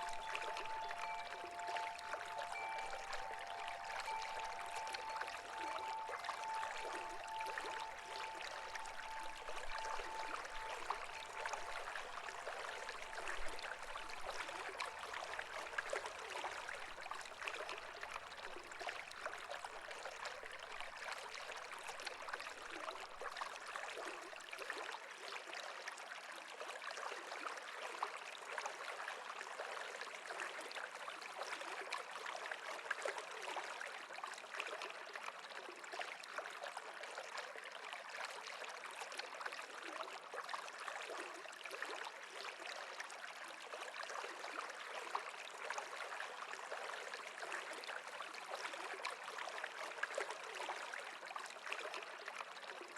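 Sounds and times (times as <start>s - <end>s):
stream water flowing: 0.0s - 52.9s.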